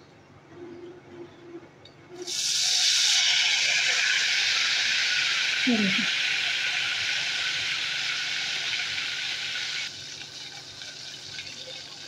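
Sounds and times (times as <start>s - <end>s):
batter sizzling in hot oil: 2.2s - 12.0s.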